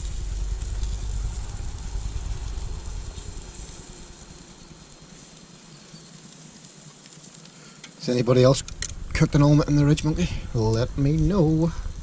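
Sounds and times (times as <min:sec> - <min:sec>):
vehicle engine rumbling: 0:00.0 - 0:06.8, 0:08.0 - 0:12.0
frying pan hiss: 0:00.0 - 0:12.0.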